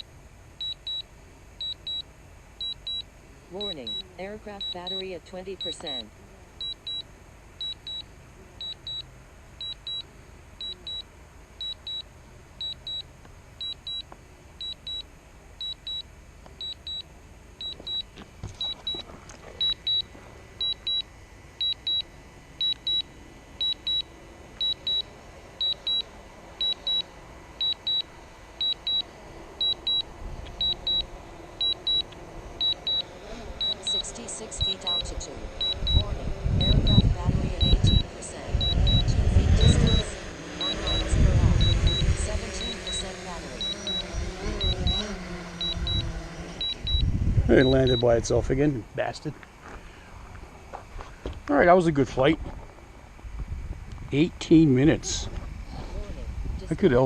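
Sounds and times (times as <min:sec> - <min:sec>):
high double beep warning: 0:00.6 - 0:19.0, 0:19.6 - 0:48.2.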